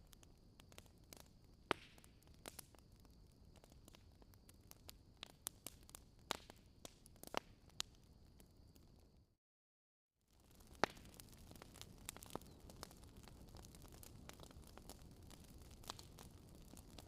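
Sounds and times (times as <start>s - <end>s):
wood fire crackling: 0.0s - 9.2s, 10.3s - 17.0s.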